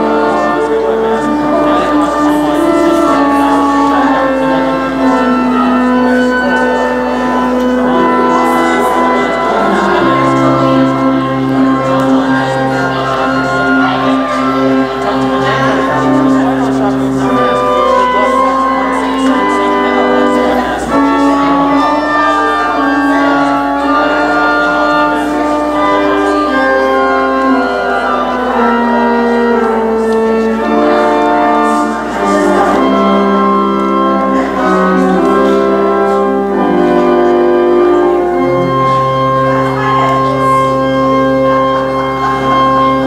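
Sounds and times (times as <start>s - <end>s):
church organ playing chords: 0.0s - 43.0s.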